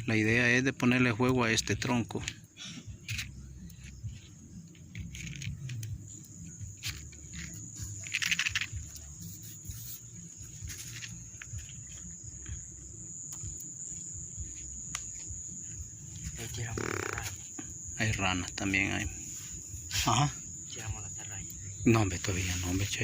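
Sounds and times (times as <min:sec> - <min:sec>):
high-pitched insect buzz: 0:01.7 - 0:23.0.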